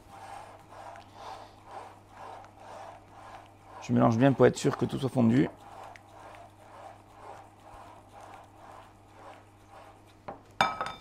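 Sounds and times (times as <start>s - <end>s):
spatula scraping glass bowl: 0.0s - 10.8s.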